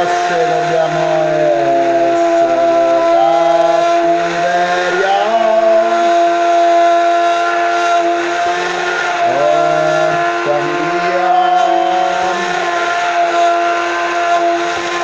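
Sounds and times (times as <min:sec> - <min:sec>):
immersion blender whine: 0:00.0 - 0:15.0.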